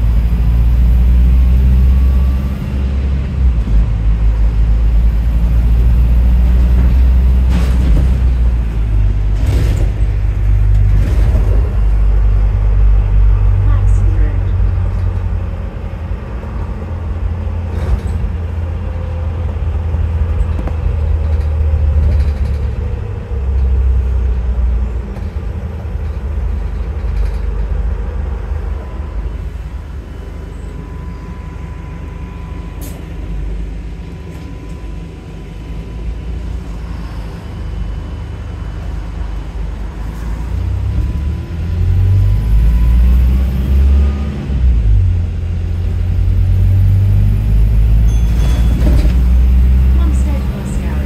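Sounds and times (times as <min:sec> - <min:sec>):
bus engine rumble: 0:00.0 - 0:51.0.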